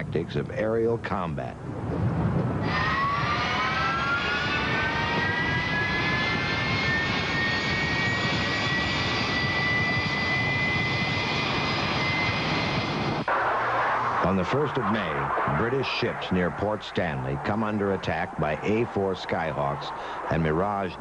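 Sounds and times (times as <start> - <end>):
jet engine noise: 0.0 - 21.0
jet engine whine rising: 2.6 - 21.0.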